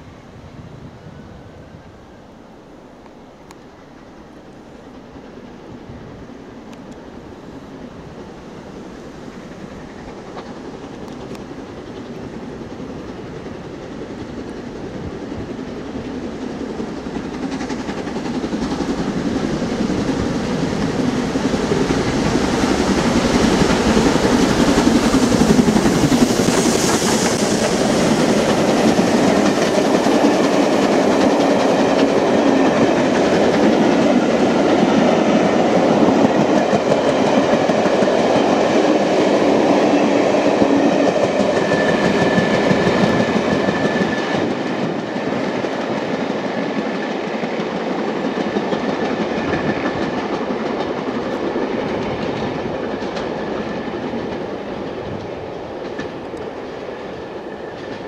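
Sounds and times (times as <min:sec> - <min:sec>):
steam locomotive passing at speed: 0:00.0 - 0:58.0
train wheels clacking over rail joints: 0:09.3 - 0:58.0.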